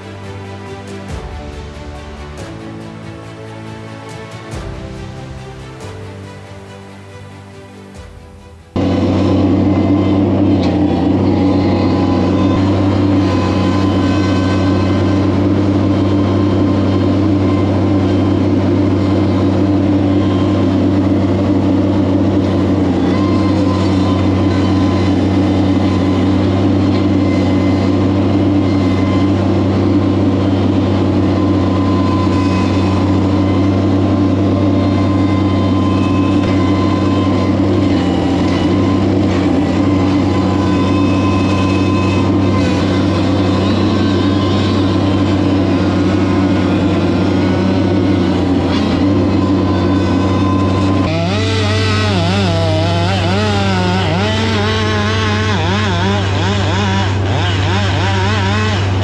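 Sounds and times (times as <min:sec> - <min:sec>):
heavy equipment engine running: 0:00.0 - 0:59.0.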